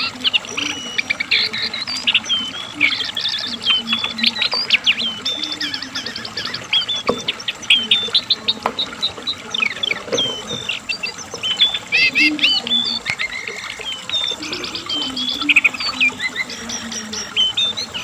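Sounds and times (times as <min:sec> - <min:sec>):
bird singing: 0:00.0 - 0:18.0.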